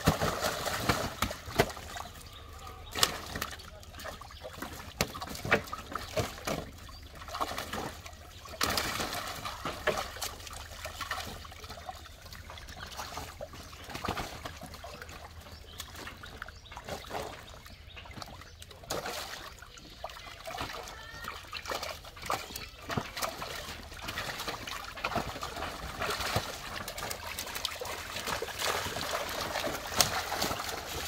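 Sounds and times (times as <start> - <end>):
fish thrashing and splashing: 0.0 - 31.0
water trickling: 0.0 - 31.0.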